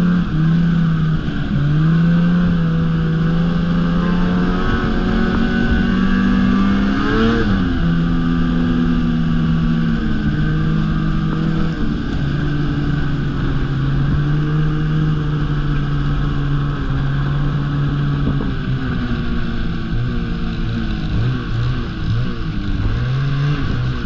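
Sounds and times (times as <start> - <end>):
snowmobile engine running: 0.0 - 24.0
snowmobile track noise: 0.0 - 24.0
wind: 0.0 - 24.0.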